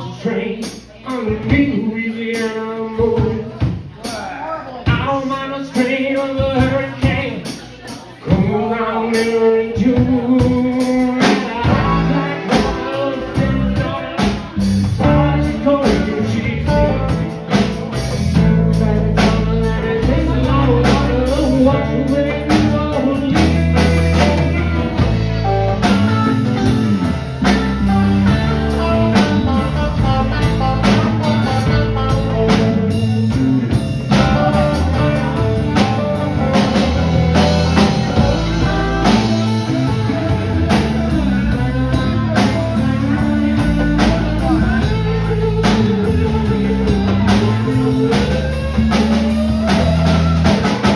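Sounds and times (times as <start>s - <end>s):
drum kit beat: 0.0s - 50.9s
electric guitars: 6.4s - 50.9s.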